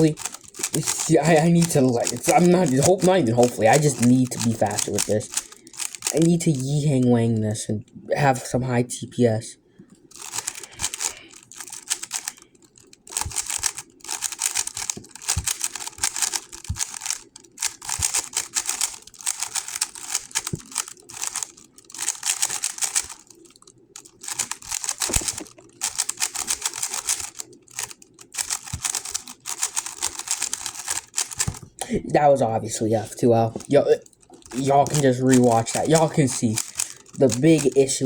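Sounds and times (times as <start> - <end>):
rapid plastic clicking of cube: 0.0 - 7.1, 10.1 - 32.0, 33.3 - 38.0.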